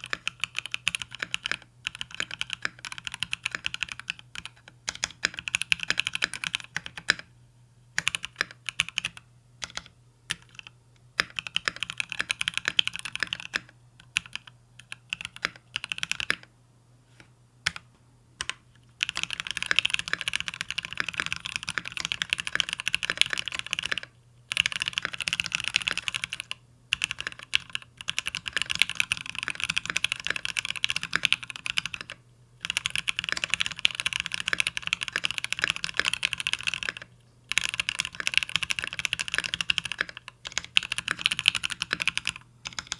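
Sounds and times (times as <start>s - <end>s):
typing on mechanical keyboard: 0.0s - 7.3s, 8.0s - 16.5s, 18.4s - 42.9s.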